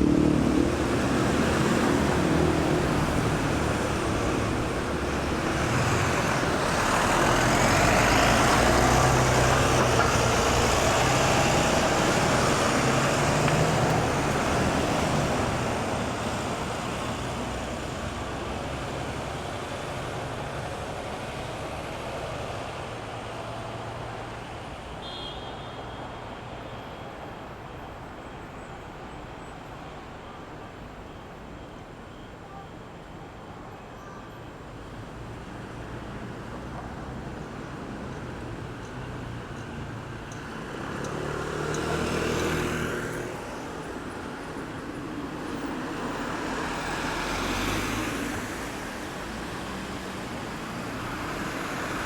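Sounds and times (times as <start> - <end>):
traffic hum: 0.0 - 25.0, 34.5 - 52.0
vehicle engine and tyre noise: 0.0 - 30.6, 35.5 - 52.0.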